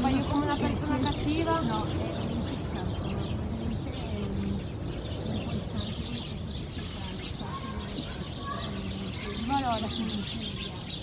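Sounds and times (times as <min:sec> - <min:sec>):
birds chirping: 0:00.0 - 0:11.0
outdoor background rumble: 0:00.0 - 0:11.0.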